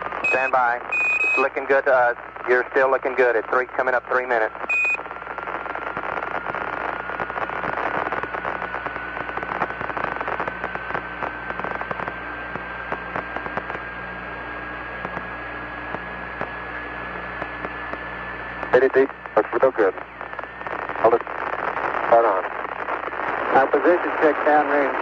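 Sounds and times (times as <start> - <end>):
radio static hiss and crackle: 0.0 - 25.0.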